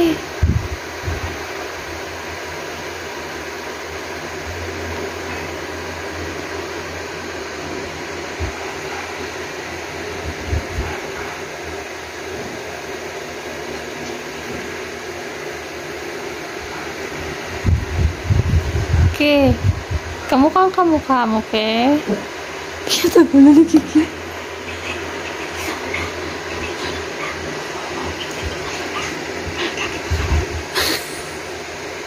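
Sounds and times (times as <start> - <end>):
electric fan whirring: 0.0 - 32.0.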